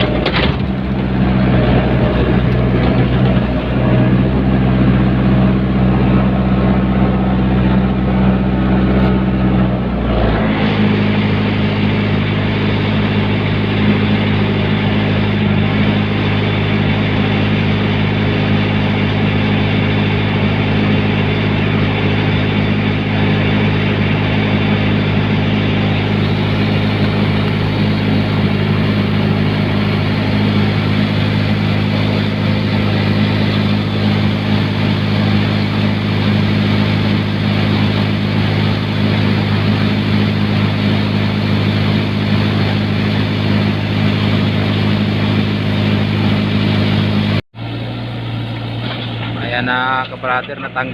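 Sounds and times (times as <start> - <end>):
diesel excavator engine droning: 0.0 - 50.9.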